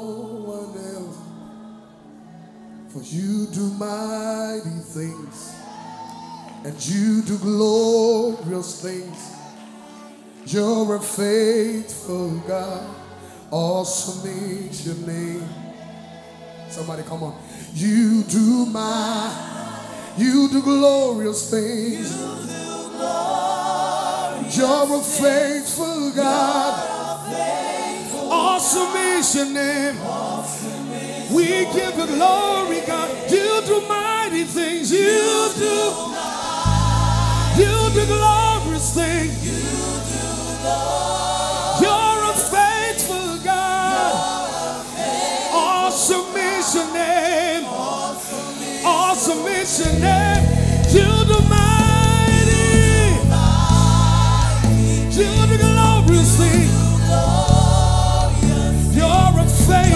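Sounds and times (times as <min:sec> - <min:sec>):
man singing gospel song: 0:00.0 - 0:01.6, 0:02.9 - 0:05.7, 0:06.6 - 0:15.7, 0:16.6 - 0:59.9
choir backing singers: 0:00.0 - 0:59.9.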